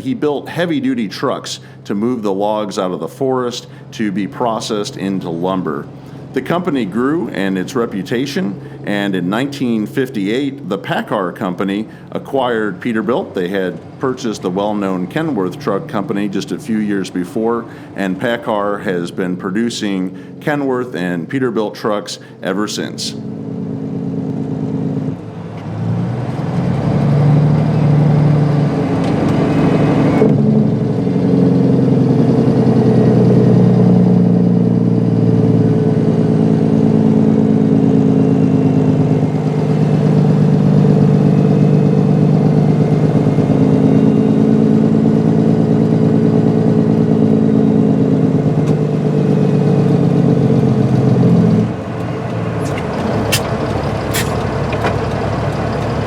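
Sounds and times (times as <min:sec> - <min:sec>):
truck diesel engine driving: 0:00.0 - 0:56.0.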